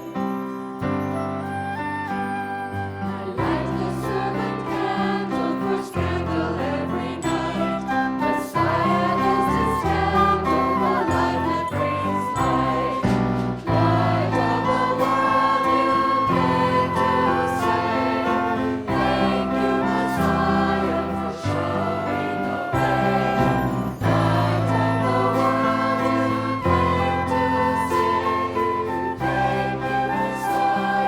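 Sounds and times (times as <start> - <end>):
instrumental accompaniment: 0.0 - 31.0
choir singing: 1.6 - 31.0.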